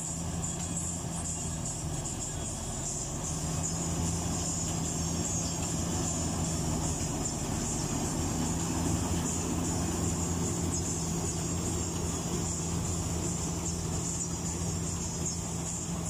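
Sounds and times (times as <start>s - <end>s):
combine harvester engine hum: 0.0s - 16.0s
constant high hiss: 0.0s - 16.0s.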